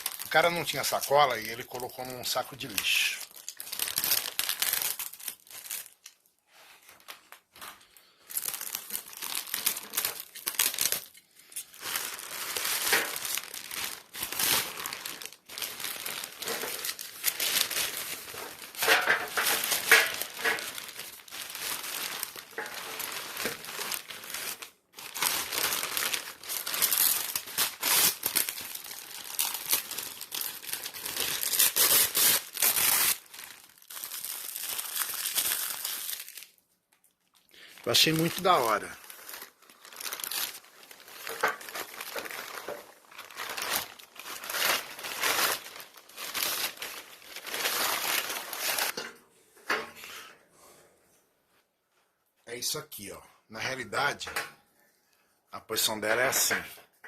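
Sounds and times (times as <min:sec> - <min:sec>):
plastic bag crinkling: 0:00.0 - 0:06.3, 0:06.9 - 0:49.0.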